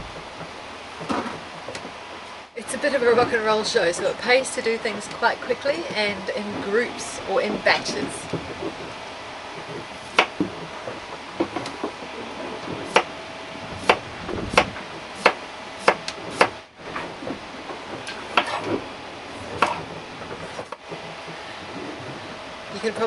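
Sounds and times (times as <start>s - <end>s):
fan humming: 0.0s - 23.0s.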